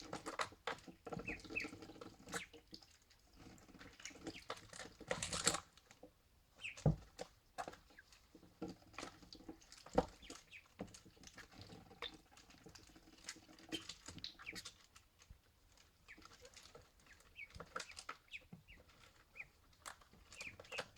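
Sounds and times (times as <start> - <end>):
ducklings peeping: 0.1 - 2.9, 3.5 - 5.6, 6.5 - 15.1, 15.7 - 20.9.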